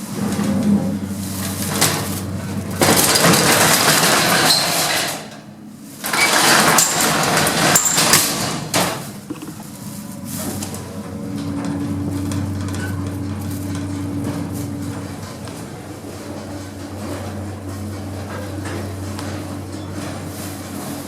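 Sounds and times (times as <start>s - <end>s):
lift metallic rattling: 0.0s - 21.0s
steady low hum: 0.0s - 21.0s.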